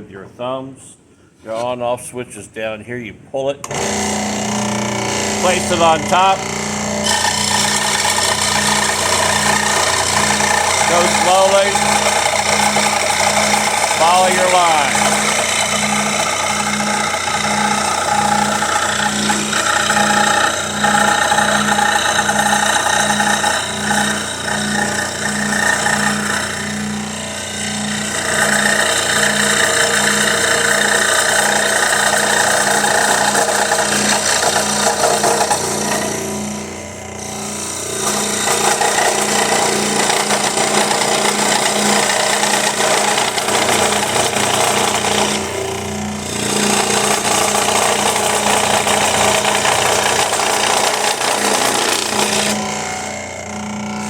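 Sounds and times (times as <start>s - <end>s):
scroll saw cutting wood: 3.6s - 54.0s.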